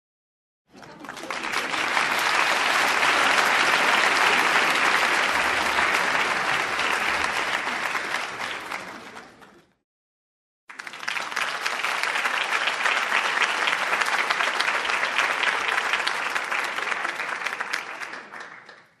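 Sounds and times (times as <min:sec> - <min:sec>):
crowd applause: 0:00.7 - 0:09.8, 0:10.7 - 0:19.0.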